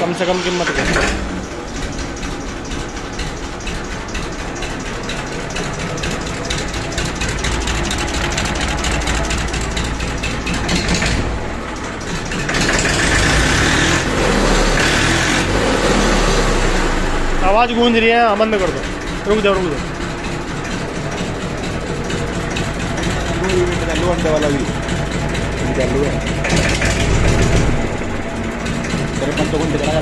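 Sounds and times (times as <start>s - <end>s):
diesel tractor engine clattering: 0.0s - 30.0s.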